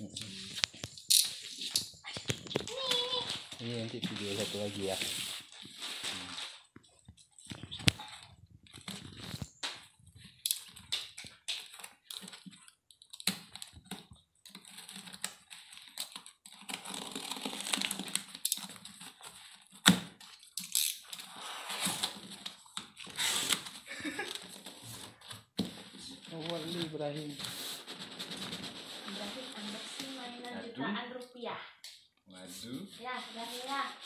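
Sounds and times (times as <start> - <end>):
cardboard and tape rustling: 0.0 - 30.8, 32.4 - 34.0.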